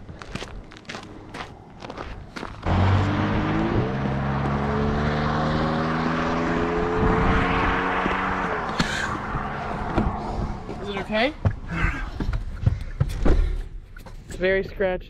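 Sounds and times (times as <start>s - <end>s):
vehicle engine humming: 0.0s - 12.8s
road rush noise: 0.0s - 13.0s.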